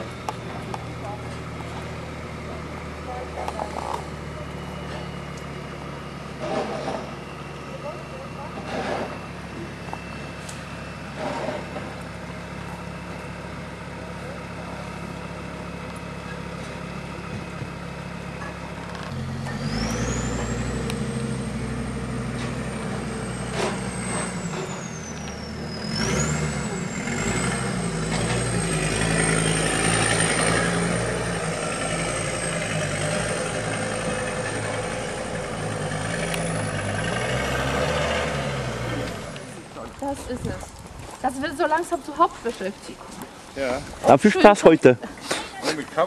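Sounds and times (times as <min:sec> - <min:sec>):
truck engine running: 0:00.0 - 0:42.6.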